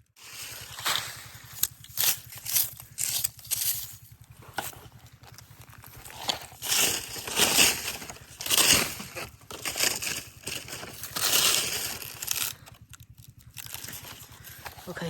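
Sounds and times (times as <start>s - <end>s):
debris rustling and crunching: 0.2s - 15.0s.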